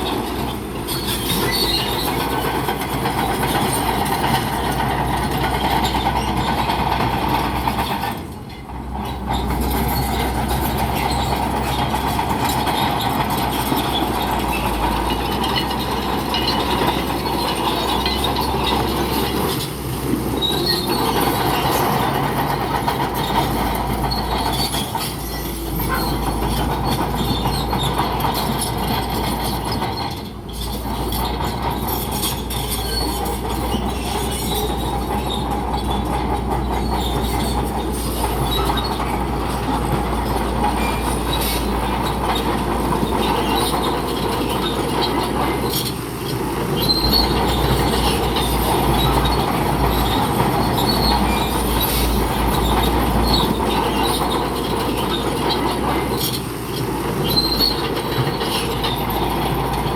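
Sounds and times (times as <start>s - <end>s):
diesel engine running: 0.0s - 59.9s
steel tracks clattering: 0.0s - 59.9s.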